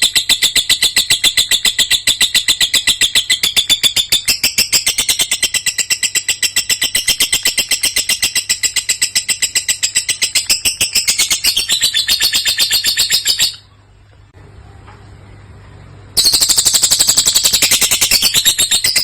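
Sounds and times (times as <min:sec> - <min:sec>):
lovebird shrill chattering: 0:00.0 - 0:13.6, 0:16.2 - 0:19.0.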